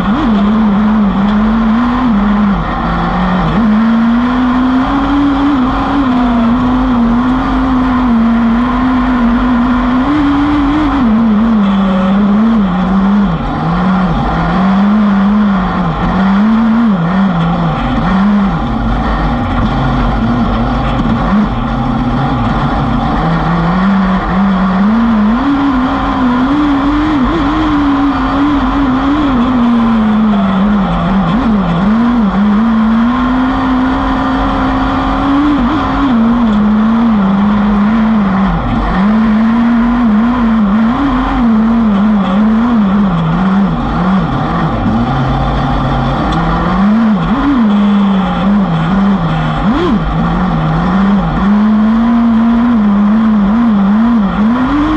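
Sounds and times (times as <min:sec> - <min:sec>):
buggy engine racing: 0:00.0 - 0:54.9
constant rumble and rush: 0:00.0 - 0:54.9.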